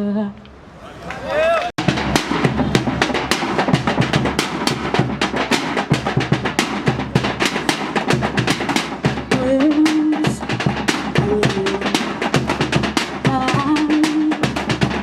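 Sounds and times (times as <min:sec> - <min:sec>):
percussion group drumming: 0:01.8 - 0:15.0.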